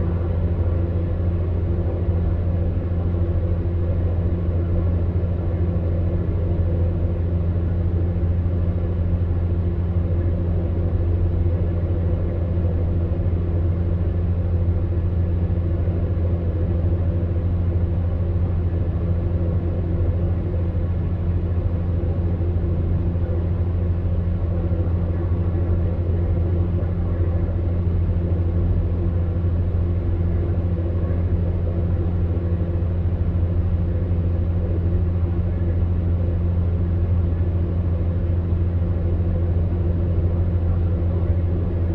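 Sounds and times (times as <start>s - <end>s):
electric fan heater humming: 0.0s - 41.9s.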